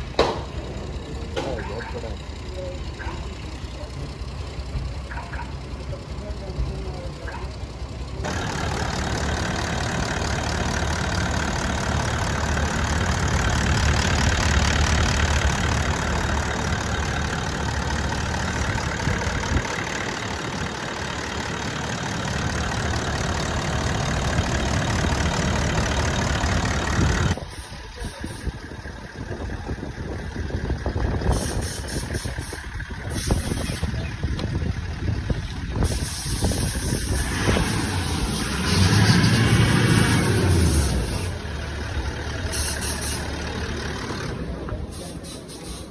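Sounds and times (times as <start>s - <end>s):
diesel car engine running: 0.0s - 45.9s.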